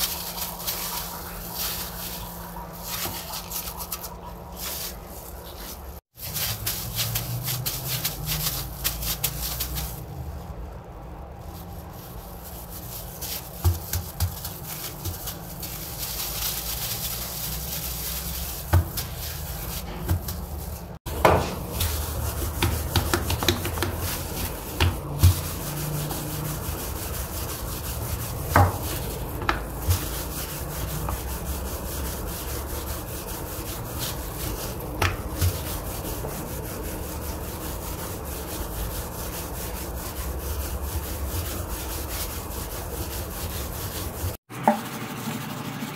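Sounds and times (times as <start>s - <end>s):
rolling pin rubbing dough: 0.0s - 45.9s.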